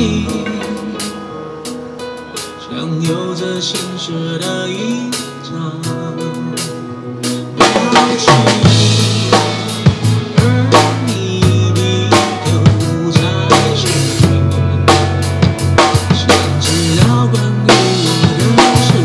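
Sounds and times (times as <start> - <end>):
pop song with singing: 0.0 - 1.6, 2.5 - 19.0
drum kit playing: 0.0 - 19.0.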